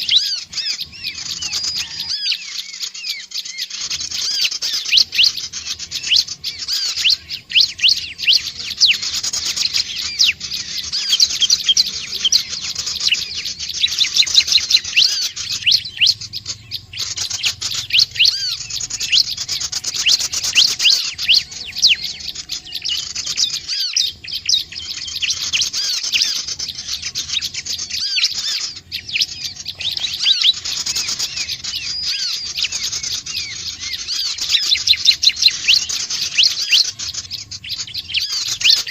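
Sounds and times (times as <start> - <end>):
bird rapid high chirps: 0.0 - 38.9.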